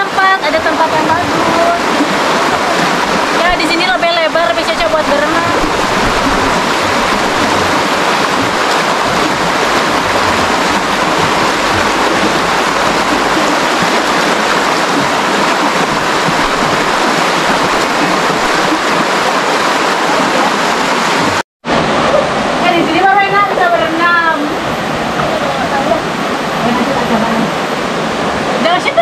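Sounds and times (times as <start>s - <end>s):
river running over rocks: 0.0s - 29.0s.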